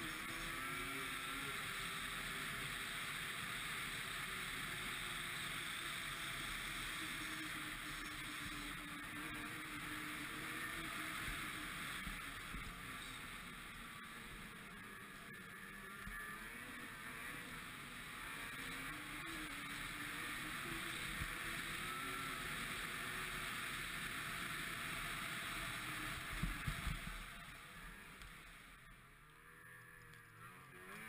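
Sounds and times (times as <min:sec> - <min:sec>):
snowmobile engine running: 0:00.0 - 0:31.0.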